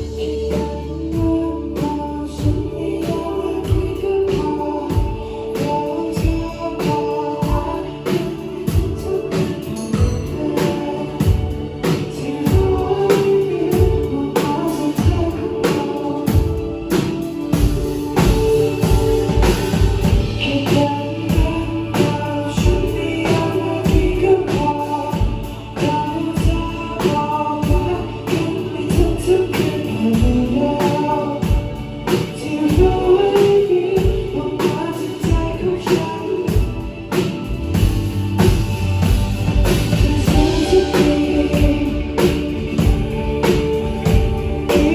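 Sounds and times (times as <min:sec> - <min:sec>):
drum kit beating steady rhythm: 0:00.0 - 0:44.9
person singing: 0:00.0 - 0:44.9
pitched instruments: 0:00.0 - 0:44.9.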